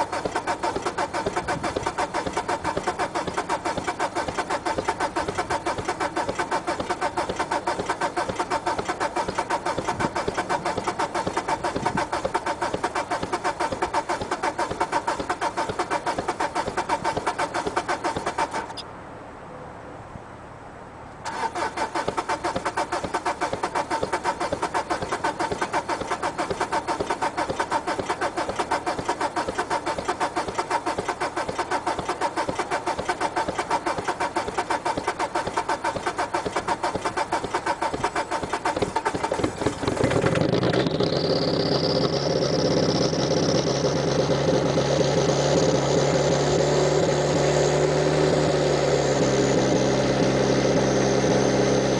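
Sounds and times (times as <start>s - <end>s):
diesel engine clatter: 0.0s - 18.9s, 21.2s - 51.9s
engine running steadily: 0.0s - 51.9s.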